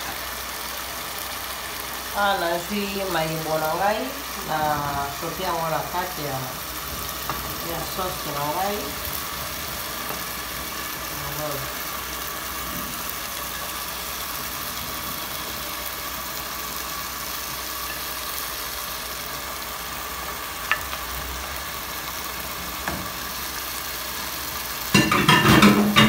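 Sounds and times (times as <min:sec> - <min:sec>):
loud sizzling and clatter: 0:00.0 - 0:26.0
mushrooms sizzling in oil: 0:00.0 - 0:26.0.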